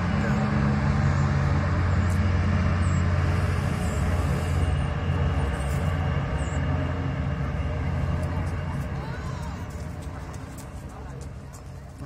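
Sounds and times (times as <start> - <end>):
hovercraft engines droning: 0.0 - 12.0.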